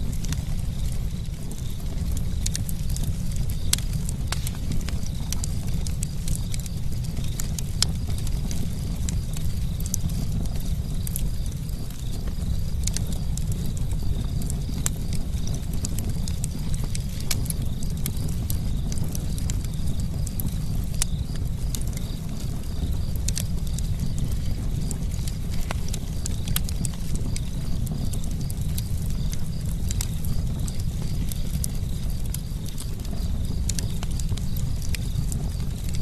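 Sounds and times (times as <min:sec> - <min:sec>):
burning wood crackling and popping: 0:00.0 - 0:36.0
campfire rumbling: 0:00.0 - 0:36.0.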